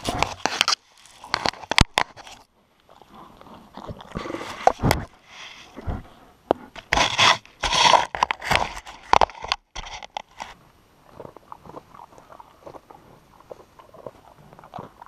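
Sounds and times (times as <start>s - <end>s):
bear scraping and snuffling: 0.0s - 15.0s.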